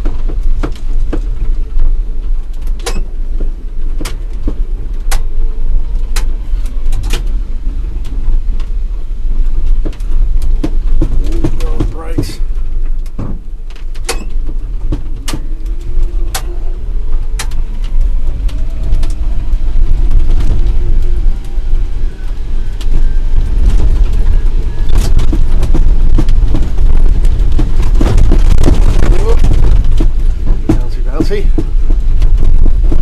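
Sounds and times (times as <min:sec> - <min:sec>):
electric truck rumbling: 0:00.0 - 0:33.0
knocks and rattles: 0:00.0 - 0:33.0
faint rising whine: 0:01.4 - 0:33.0.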